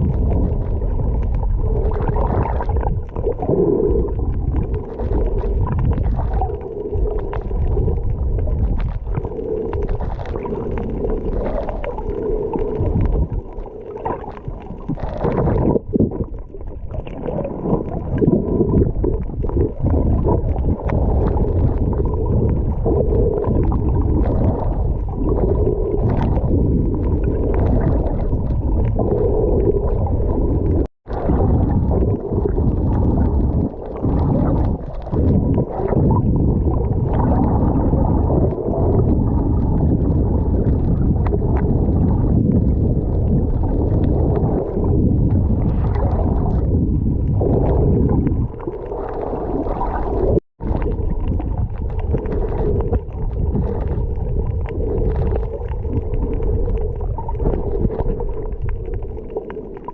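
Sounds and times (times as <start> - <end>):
muffled underwater rush: 0.0 - 59.9
swelling underwater sound: 0.0 - 59.9.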